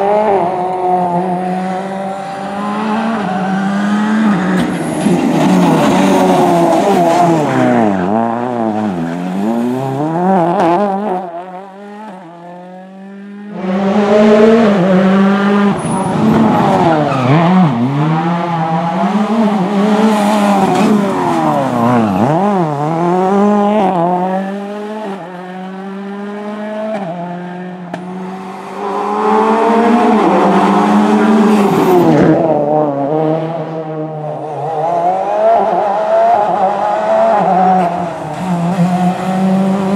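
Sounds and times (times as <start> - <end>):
rally car engine revving hard: 0.0 - 39.9.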